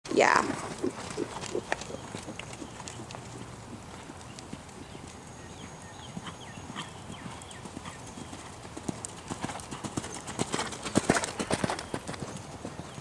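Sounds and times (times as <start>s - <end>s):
muffled hoofbeats on sand: 0.3s - 13.0s.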